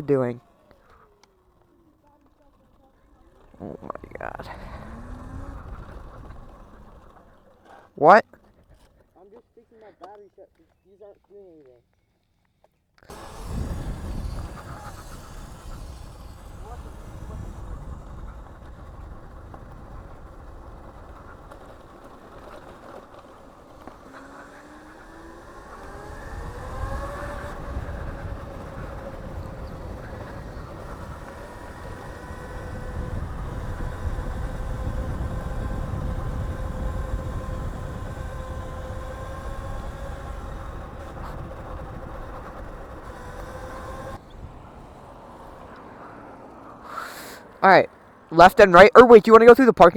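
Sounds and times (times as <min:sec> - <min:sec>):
electric motor whining: 0:00.0 - 0:07.9, 0:13.1 - 0:45.9.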